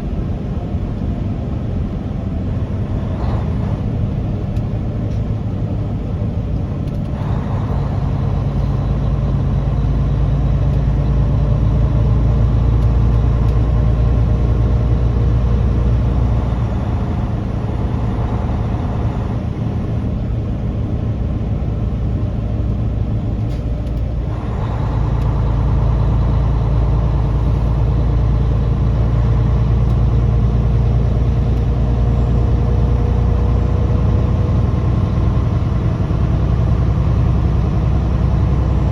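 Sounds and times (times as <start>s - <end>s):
road noise: 0.0s - 38.9s
truck engine running: 0.0s - 38.9s.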